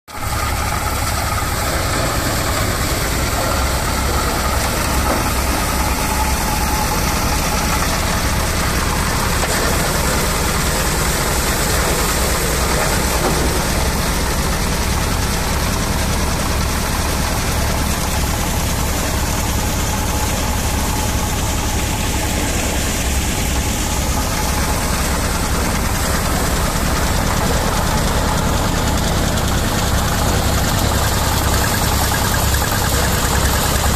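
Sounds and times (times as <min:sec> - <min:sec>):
threshing machine droning: 0:00.2 - 0:33.9.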